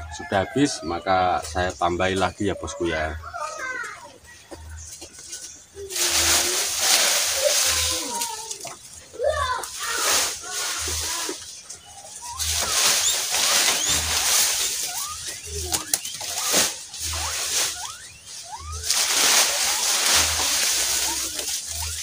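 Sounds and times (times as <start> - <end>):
grass rustling and crunching: 4.2 - 22.0.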